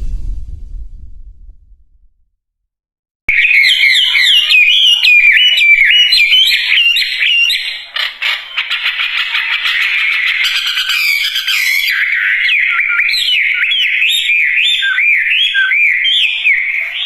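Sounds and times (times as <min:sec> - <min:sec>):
songbird singing whistled notes: 0:03.3 - 0:17.0.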